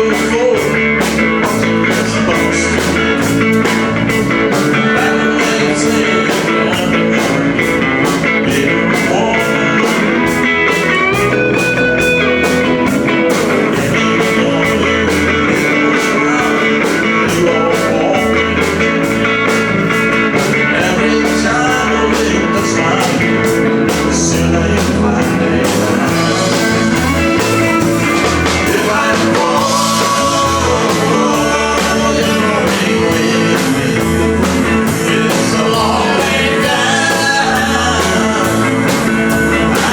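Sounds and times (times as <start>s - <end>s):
live country-rock band: 0.0s - 39.9s.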